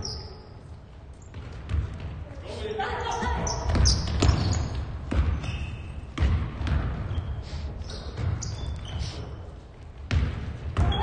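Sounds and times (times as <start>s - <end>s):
basketball bouncing on gym floor: 1.1s - 2.4s, 3.2s - 11.0s.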